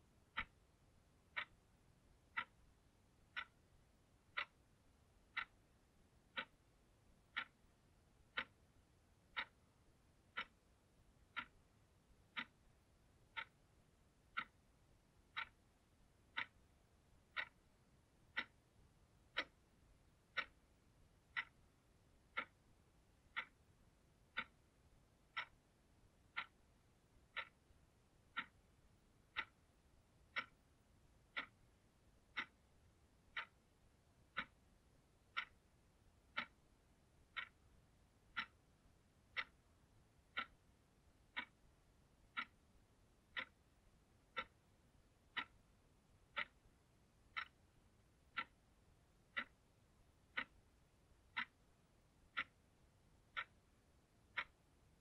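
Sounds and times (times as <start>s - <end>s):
alarm clock ticking: 0.0s - 55.0s.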